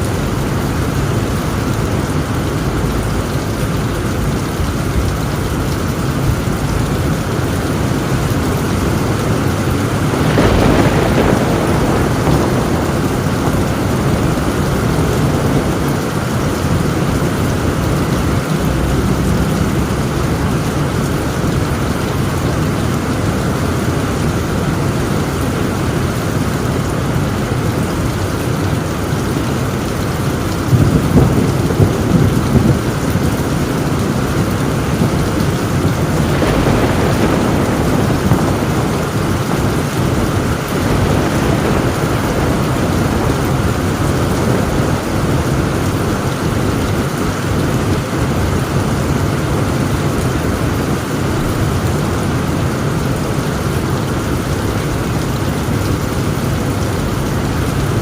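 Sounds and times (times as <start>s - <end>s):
heavy rain on a tin roof: 0.0s - 58.0s
thunder rumbling: 0.0s - 58.0s.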